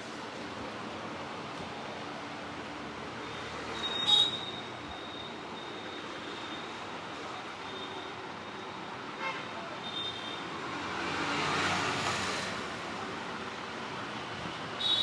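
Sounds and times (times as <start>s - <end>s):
roadside traffic noise: 0.0s - 15.0s.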